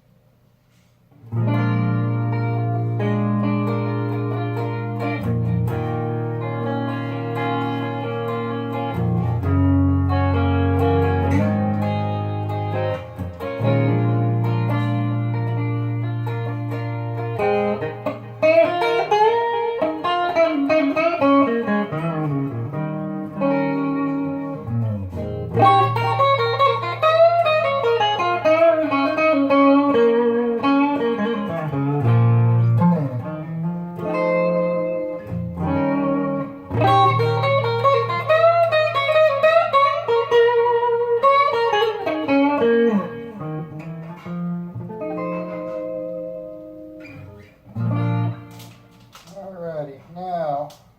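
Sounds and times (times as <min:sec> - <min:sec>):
clean electric guitar melody: 0:01.1 - 0:49.4.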